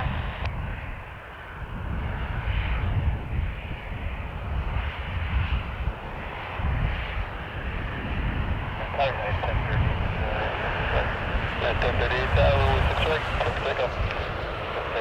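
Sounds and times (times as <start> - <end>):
aircraft engines rushing: 0.0 - 15.0
wind buffeting microphone: 0.0 - 15.0.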